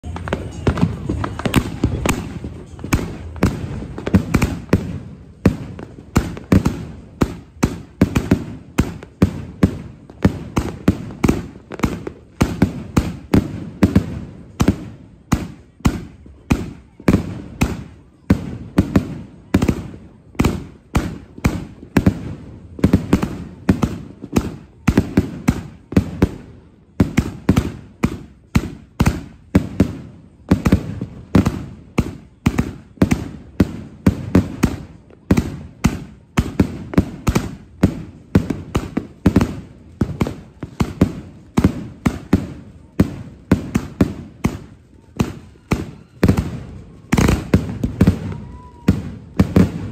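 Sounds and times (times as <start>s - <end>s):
firework cake bangs: 0.0s - 49.9s.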